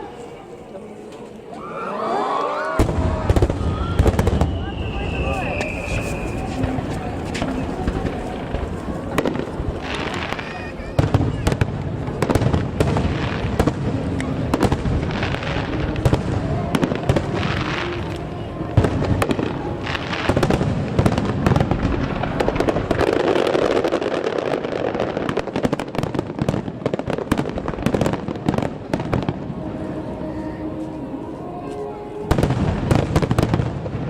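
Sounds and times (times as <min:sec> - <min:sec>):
fireworks booming and crackling: 0:02.8 - 0:34.0.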